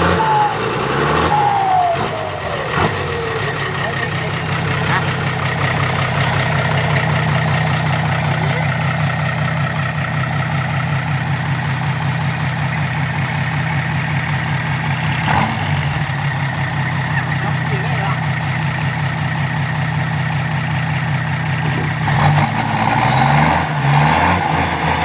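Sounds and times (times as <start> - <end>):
turbocharger whistling: 0.0 - 8.8, 9.6 - 25.0
diesel engine running: 0.0 - 25.0.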